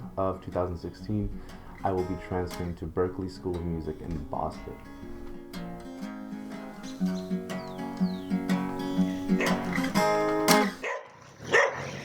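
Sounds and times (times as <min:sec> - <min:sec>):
acoustic guitar playing: 0:00.0 - 0:10.8.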